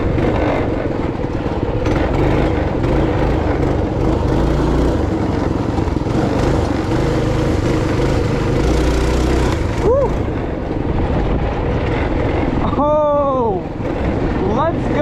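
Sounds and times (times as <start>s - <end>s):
motorcycle engine running: 0.0s - 15.0s
wind: 0.0s - 15.0s.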